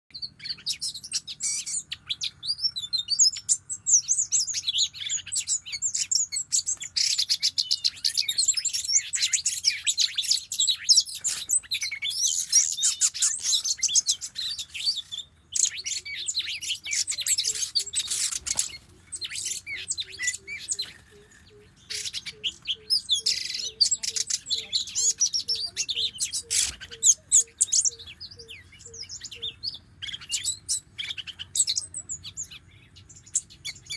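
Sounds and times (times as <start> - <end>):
bird singing chirps and whistles: 0.1 - 33.9.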